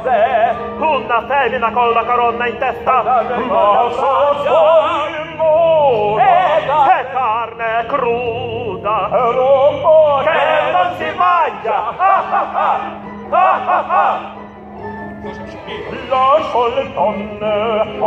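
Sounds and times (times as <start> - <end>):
operatic singing with vibrato: 0.0 - 18.0.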